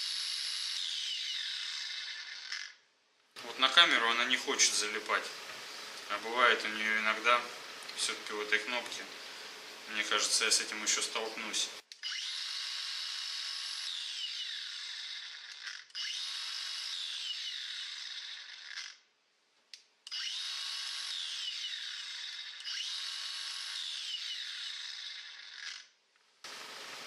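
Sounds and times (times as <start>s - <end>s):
angle grinder whining: 0.0s - 2.8s, 3.4s - 19.0s, 20.1s - 25.9s, 26.5s - 27.0s.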